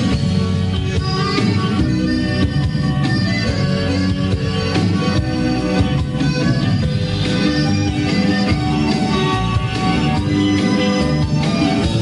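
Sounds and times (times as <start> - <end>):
live folk-rock band instrumental: 0.0 - 12.0.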